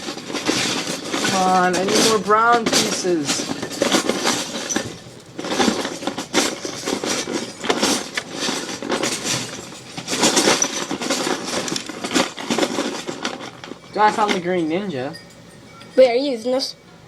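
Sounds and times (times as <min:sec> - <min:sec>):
plastic bricks clattering: 0:00.0 - 0:14.4.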